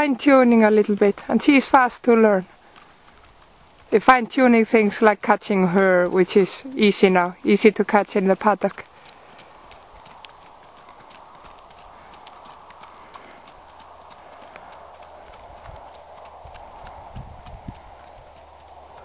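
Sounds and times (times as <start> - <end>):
horse hoofbeats on dirt: 0.0 - 19.0.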